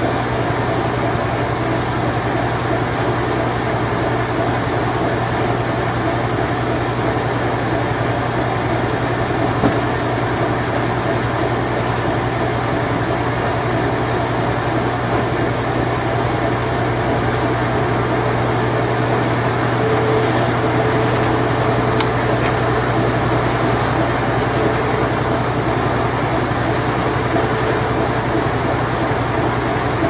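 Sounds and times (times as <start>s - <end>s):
washing machine spinning: 0.0s - 30.0s.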